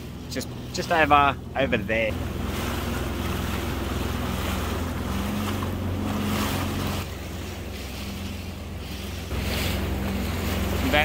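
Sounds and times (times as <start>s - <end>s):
watercraft engine idling: 0.0s - 11.0s
waves washing around hull: 0.0s - 11.0s.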